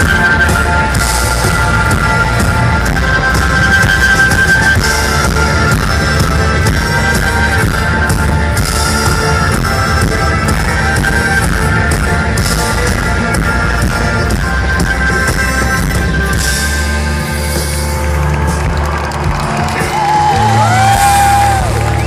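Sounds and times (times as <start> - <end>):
electric guitars: 0.0 - 22.0.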